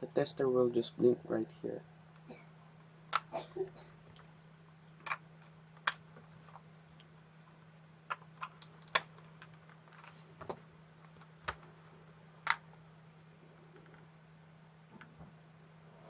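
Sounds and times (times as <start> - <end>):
steady low hum: 0.0 - 16.0
faint cricket-like chirping: 0.1 - 5.7, 6.5 - 9.1, 10.0 - 16.0.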